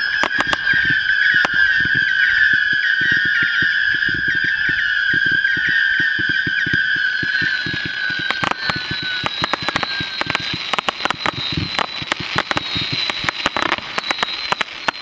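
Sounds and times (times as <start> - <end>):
crackling firework pops: 0.0 - 15.0
whistling firework shots: 0.0 - 15.0.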